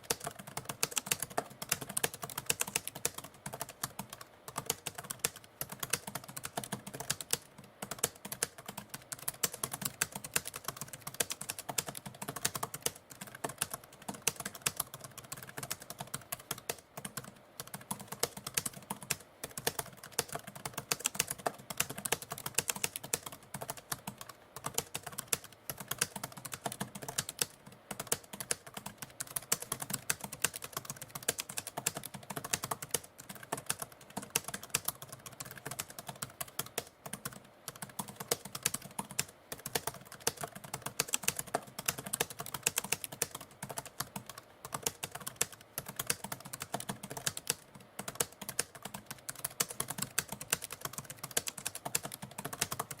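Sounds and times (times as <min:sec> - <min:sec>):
typewriter keys clicking: 0:00.0 - 0:53.0.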